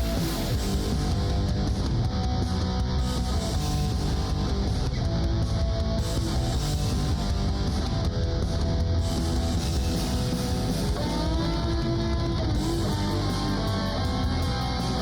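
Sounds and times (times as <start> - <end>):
electric guitar rock music: 0.0 - 15.0.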